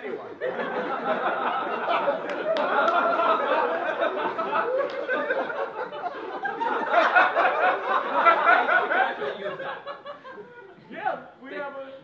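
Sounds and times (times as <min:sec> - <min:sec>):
audience laughing: 0:00.0 - 0:10.9.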